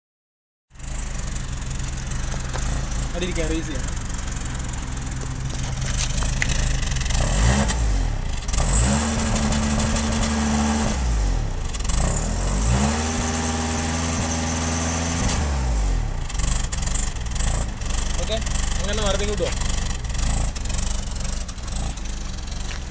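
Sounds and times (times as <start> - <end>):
car engine idling and revving: 0.7 - 22.9.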